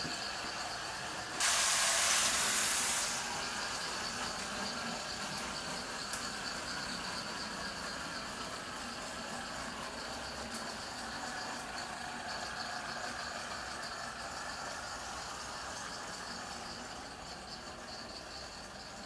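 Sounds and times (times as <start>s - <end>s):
toy train whirring hum: 0.0s - 19.0s.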